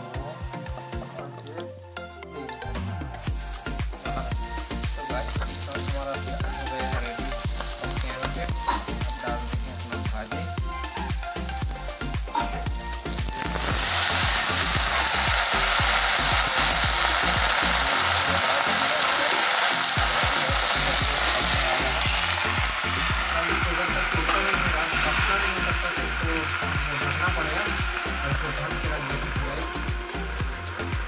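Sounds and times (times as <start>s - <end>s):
onions sizzling in oil: 3.3s - 31.0s
wet greens hissing in hot oil: 3.3s - 31.0s.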